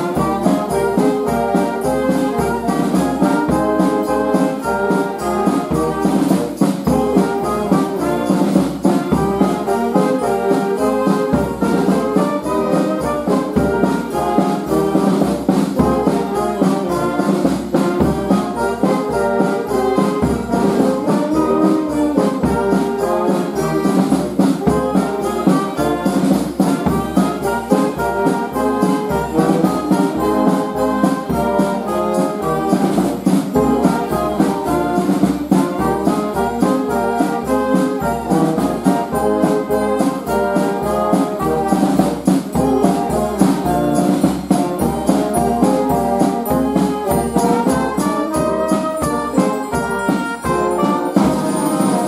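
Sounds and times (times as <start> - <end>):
brass band playing a carol: 0.0 - 52.0
steady drum beat: 0.0 - 52.0.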